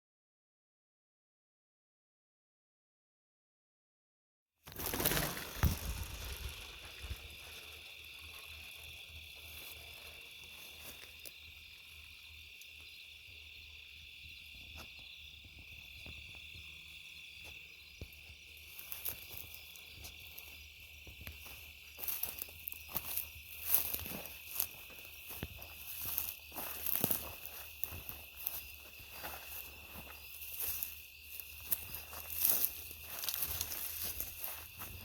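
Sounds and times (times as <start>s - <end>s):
insects chirping: 4.7s - 35.0s.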